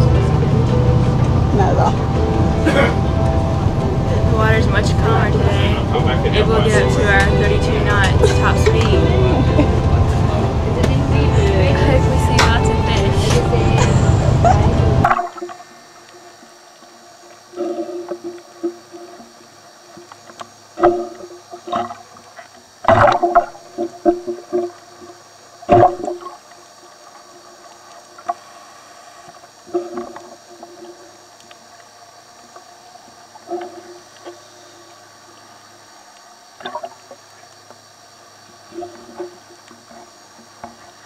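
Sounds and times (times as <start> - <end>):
underwater bubbling and gurgling: 7.0 - 41.0.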